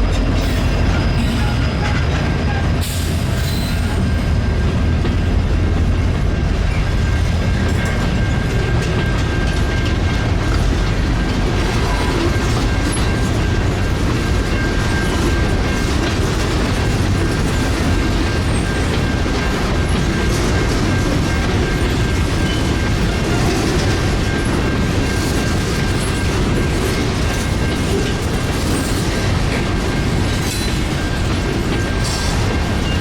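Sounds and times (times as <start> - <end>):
freight train wheels rumbling: 0.0 - 33.0
wheels clickety-clack: 0.0 - 33.0.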